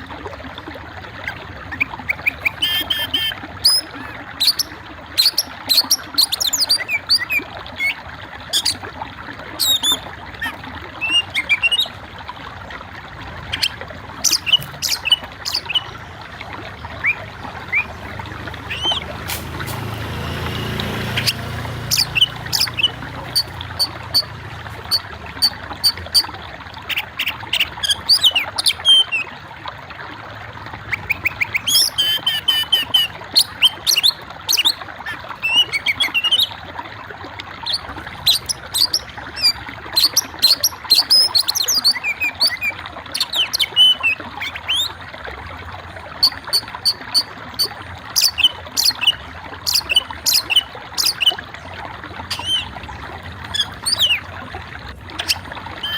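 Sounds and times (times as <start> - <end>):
small birds chirping: 1.2 - 8.8, 9.6 - 12.0, 13.4 - 29.3, 30.9 - 36.5, 37.6 - 44.9, 46.2 - 51.5, 52.2 - 54.3, 55.1 - 55.9.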